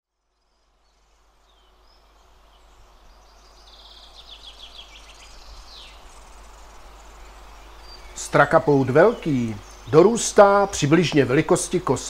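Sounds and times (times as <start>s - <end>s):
birdsong: 0.1s - 12.0s.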